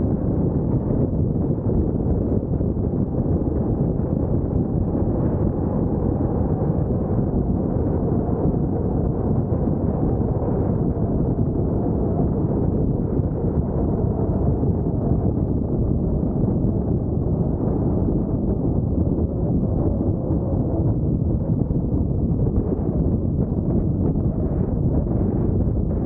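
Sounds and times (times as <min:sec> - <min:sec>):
low rumbling noise: 0:00.0 - 0:26.0.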